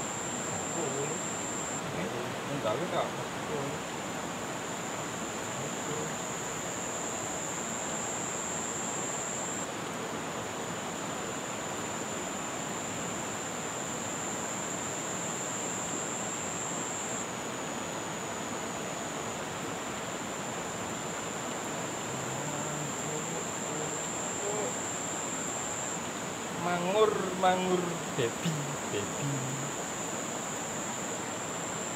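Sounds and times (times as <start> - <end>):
high insect trill: 0.0 - 9.7, 10.7 - 31.9
river water flowing: 0.0 - 31.9.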